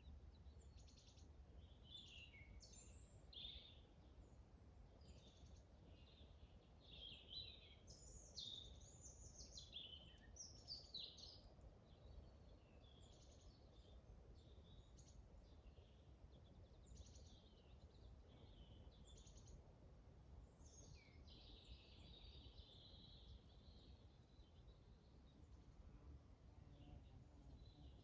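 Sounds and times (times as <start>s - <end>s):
faint birdsong: 0.0s - 28.0s.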